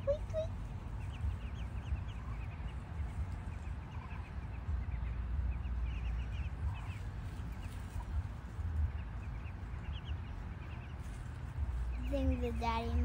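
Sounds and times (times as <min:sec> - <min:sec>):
ducklings peeping: 0:00.0 - 0:13.0
low rumble: 0:00.0 - 0:13.0.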